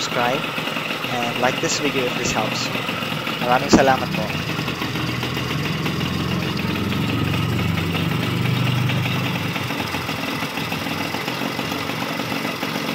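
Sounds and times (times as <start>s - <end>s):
two-stroke moped engine idling: 0.0s - 12.9s.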